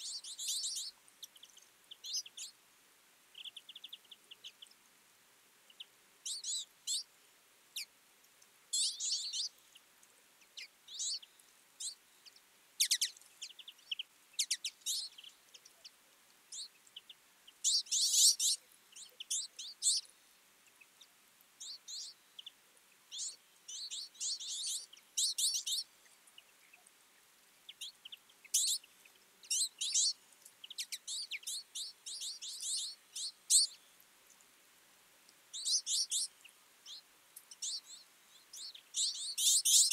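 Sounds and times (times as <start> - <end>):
birds chirping: 0.0 - 2.6, 3.3 - 4.8, 5.6 - 7.1, 7.7 - 34.4, 35.5 - 39.9.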